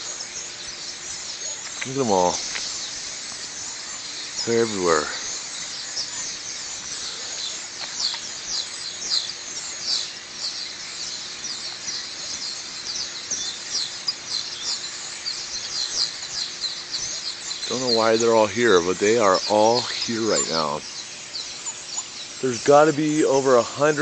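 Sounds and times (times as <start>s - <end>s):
flock of birds chirping: 0.0s - 24.0s.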